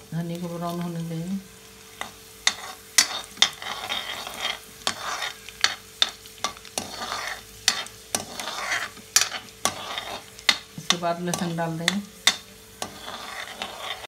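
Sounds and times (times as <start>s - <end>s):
seeds sizzling in oil: 0.0s - 14.0s
ladle clicking and scraping pan: 2.0s - 14.0s.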